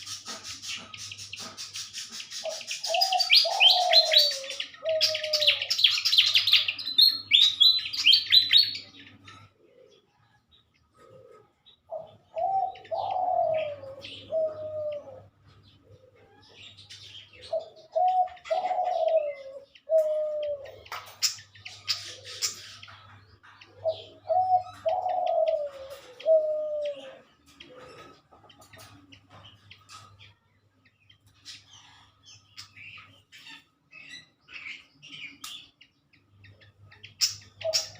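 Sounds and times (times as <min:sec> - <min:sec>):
dove cooing: 0:00.0 - 0:30.1, 0:36.5 - 0:37.9
small birds chirping: 0:00.0 - 0:37.9.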